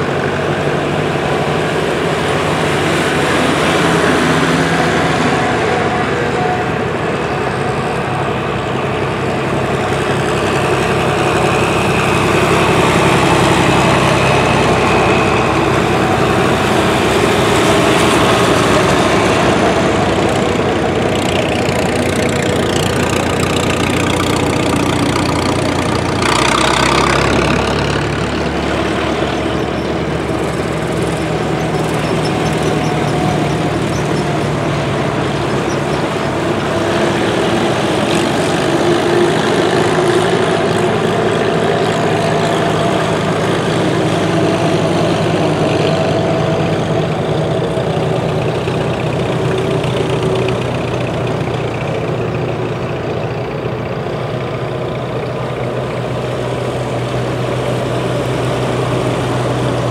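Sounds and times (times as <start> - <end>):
deeper tractor engine: 0.0 - 59.9
tractor engines running: 0.0 - 59.9.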